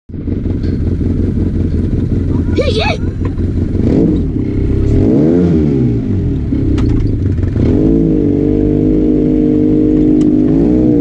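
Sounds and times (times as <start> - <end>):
engine revving: 0.2 - 11.0.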